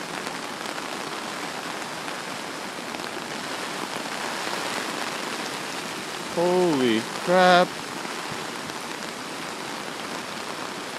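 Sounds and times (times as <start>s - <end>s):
heavy rain hiss: 0.0s - 10.9s.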